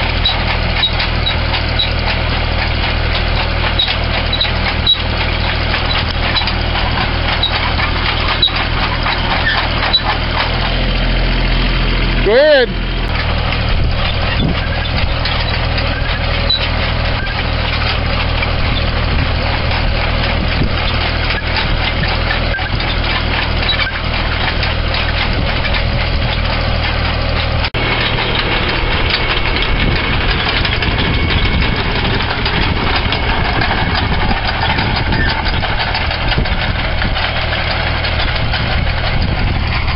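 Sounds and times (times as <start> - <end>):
potato digger rattling and clattering: 0.0 - 39.9
tractor engine running: 0.0 - 39.9.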